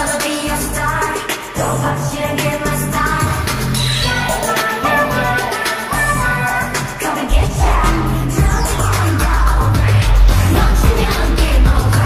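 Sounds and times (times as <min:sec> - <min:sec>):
pop dance song: 0:00.0 - 0:12.0.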